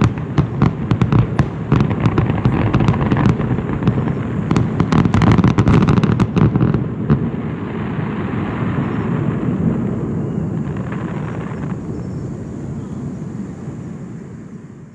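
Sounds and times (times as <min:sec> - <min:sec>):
fireworks cracks and bangs: 0:00.0 - 0:12.2.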